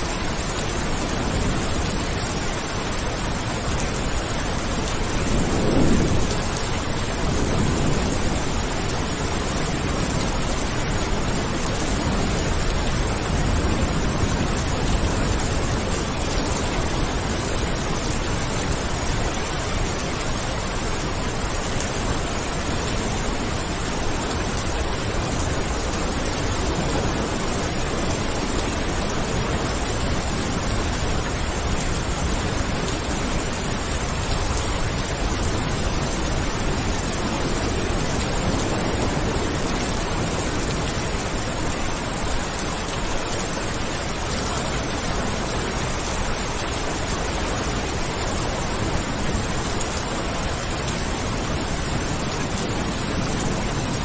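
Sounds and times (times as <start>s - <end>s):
heavy rain hissing: 0.0s - 54.0s
thunder rumbling: 1.0s - 46.1s.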